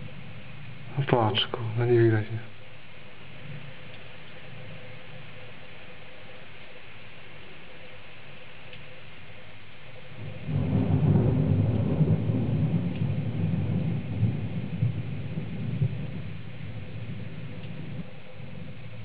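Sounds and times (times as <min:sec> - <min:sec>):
thunder rumbling: 0:00.0 - 0:08.1, 0:09.3 - 0:19.0.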